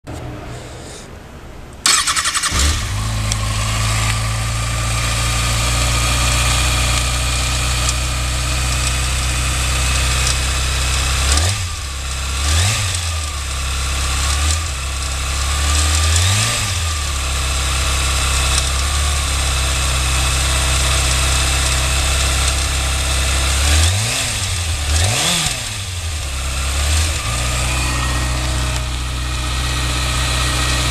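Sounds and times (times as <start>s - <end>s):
motorcycle engine idling: 1.9s - 30.9s.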